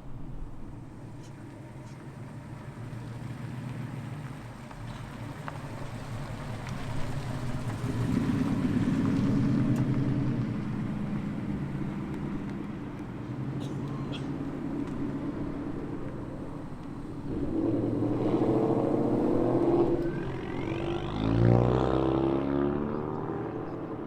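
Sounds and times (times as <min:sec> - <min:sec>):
car engine rumbling past: 0:00.1 - 0:24.0.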